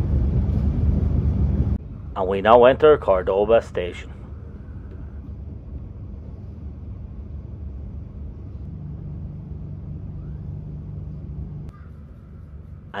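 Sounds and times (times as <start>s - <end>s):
steady low hum: 0.0s - 13.0s
train carriage rumble: 0.0s - 13.0s.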